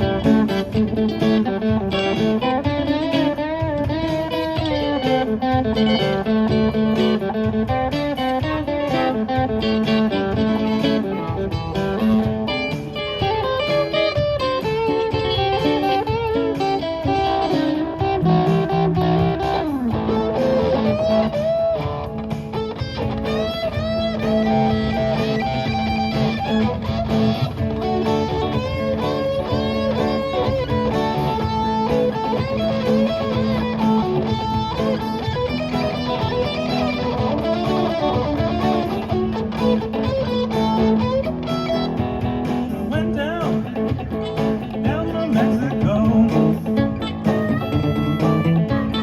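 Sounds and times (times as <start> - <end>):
blues band playing: 0.0 - 49.0
electric guitar bent notes: 0.0 - 49.0.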